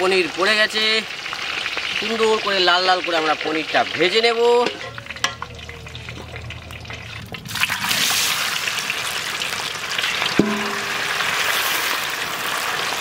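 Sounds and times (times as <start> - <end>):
cheese frying in hot oil: 0.0 - 13.0.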